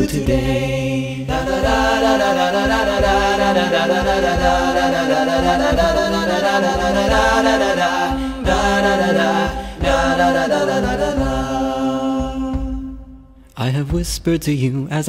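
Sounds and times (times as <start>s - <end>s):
layered voices singing chant: 0.0s - 13.9s
low thumps: 0.0s - 14.5s.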